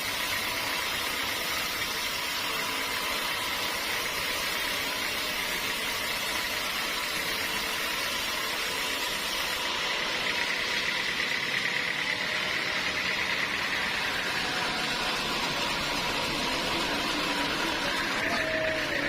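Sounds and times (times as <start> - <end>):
sawmill machinery running: 0.0 - 19.0.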